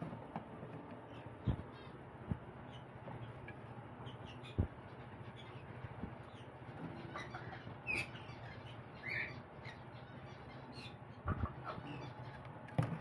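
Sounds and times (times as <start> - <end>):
parrot chicks chirping: 0.6 - 13.0.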